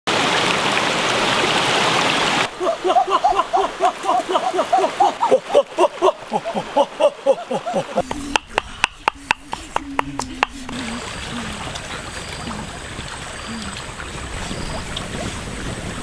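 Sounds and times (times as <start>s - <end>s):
stream water rushing over rocks: 0.1s - 16.0s.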